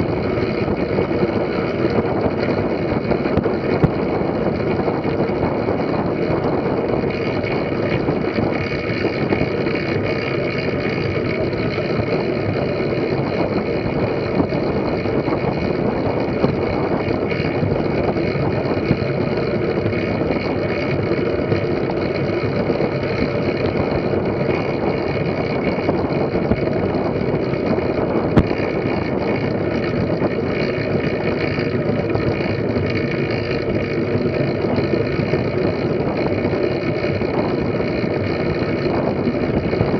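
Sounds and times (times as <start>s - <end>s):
bike tyres rolling on wooden boards: 0.0s - 39.9s
wind on microphone: 0.0s - 39.9s.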